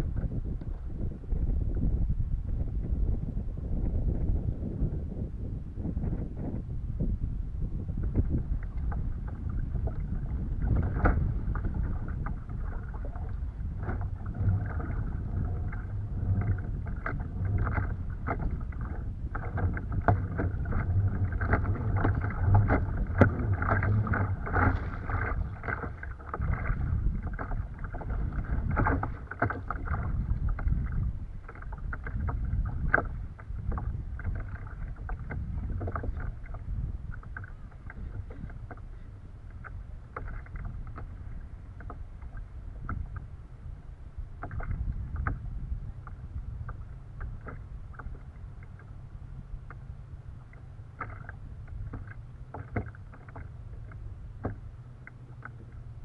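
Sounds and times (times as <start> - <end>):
waves slapping a kayak hull: 0.0 - 56.0
wind rumble on microphone: 0.0 - 56.0.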